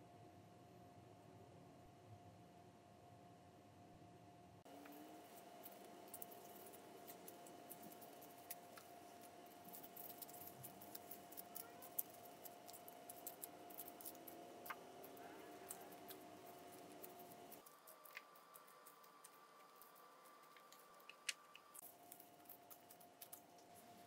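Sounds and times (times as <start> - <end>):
faint hum: 0.0 - 24.0.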